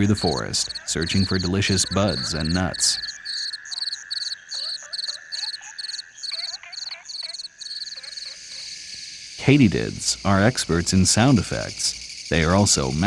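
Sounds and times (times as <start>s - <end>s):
frogs calling: 0.0s - 13.0s
high insect trill: 0.0s - 13.0s
insects chirping in pulses: 0.0s - 13.0s.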